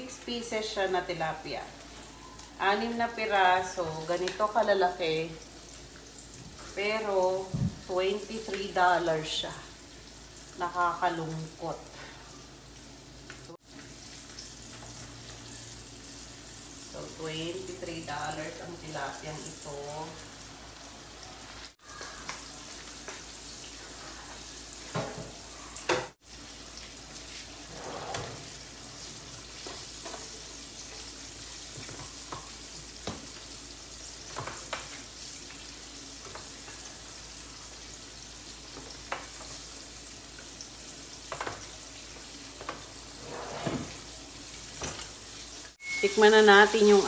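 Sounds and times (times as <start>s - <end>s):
fish sizzling in hot oil: 0.0s - 27.8s, 28.4s - 43.2s, 43.9s - 47.0s.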